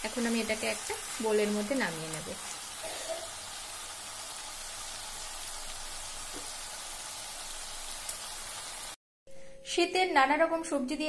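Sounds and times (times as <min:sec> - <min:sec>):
vegetables sizzling in a pan: 0:00.0 - 0:09.0.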